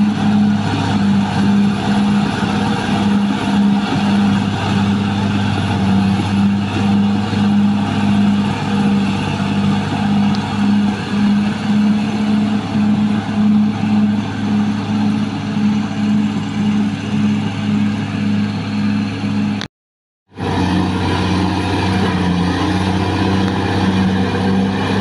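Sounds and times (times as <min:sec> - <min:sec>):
bulldozer diesel engine running: 0:00.0 - 0:19.7, 0:20.3 - 0:25.0.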